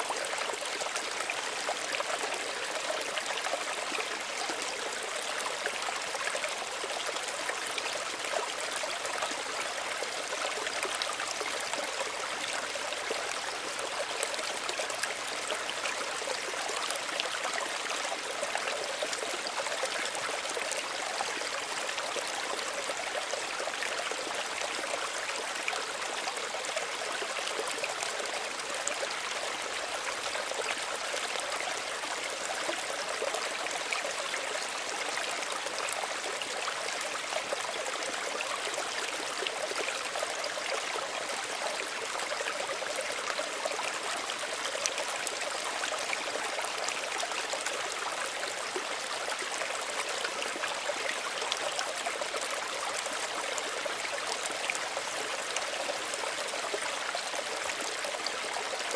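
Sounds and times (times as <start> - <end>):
stream trickling over stones: 0.0 - 58.9.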